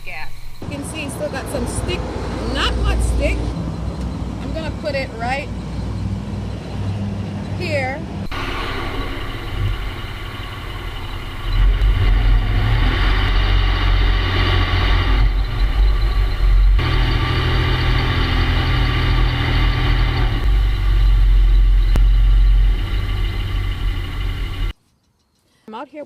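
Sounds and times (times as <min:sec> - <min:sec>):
wind and road noise: 0:00.0 - 0:24.8
car engine: 0:00.6 - 0:24.8.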